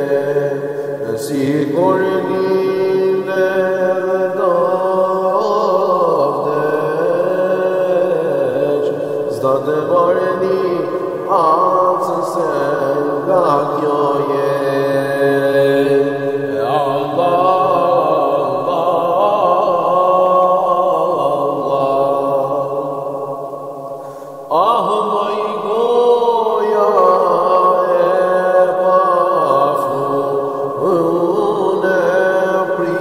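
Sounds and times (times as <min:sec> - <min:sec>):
devotional hymn chanted: 0:00.0 - 0:33.0.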